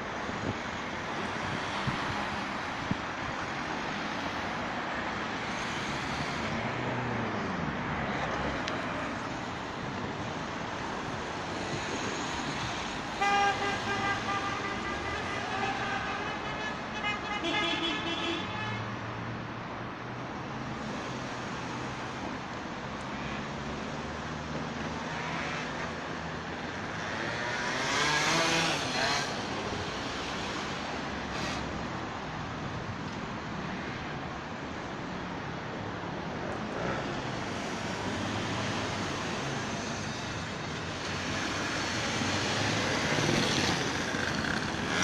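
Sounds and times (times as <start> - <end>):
road traffic: 0.0 - 45.0.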